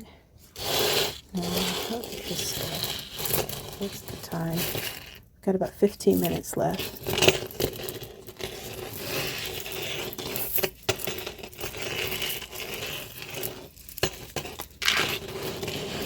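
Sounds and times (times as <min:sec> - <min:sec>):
metal jewelry chains clinking: 0:00.6 - 0:05.2, 0:06.0 - 0:16.0.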